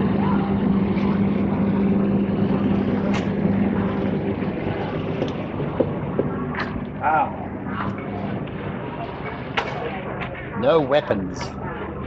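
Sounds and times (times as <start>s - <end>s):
mechanical hum with low drone: 0.0s - 12.0s.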